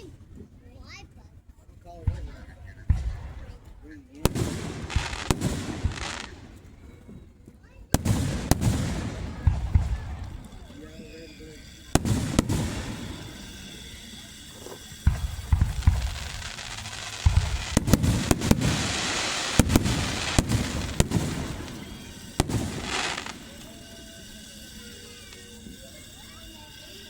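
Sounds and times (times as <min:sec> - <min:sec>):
fireworks crackling: 0:00.0 - 0:27.0
fireworks bangs: 0:02.0 - 0:27.0.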